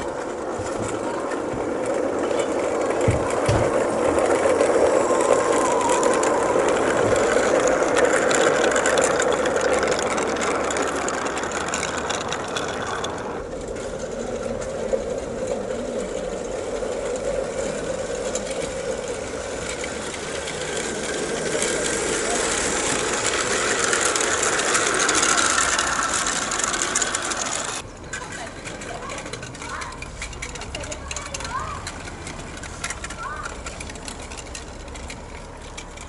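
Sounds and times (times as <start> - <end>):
model locomotive motor whirring: 0.0 - 36.0.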